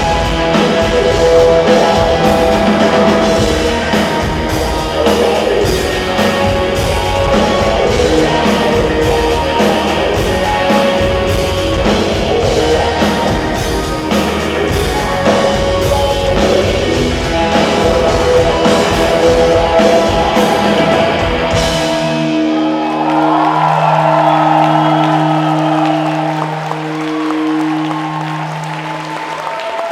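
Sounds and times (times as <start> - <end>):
drums: 0.0 - 29.9
electric guitar: 0.0 - 29.9
person singing: 0.0 - 29.9.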